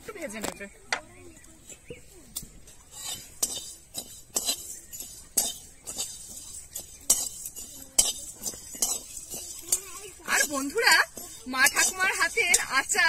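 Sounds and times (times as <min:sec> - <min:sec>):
seeds rattling against pan: 0:02.4 - 0:13.0
metal spatula scraping a wok: 0:02.5 - 0:13.0.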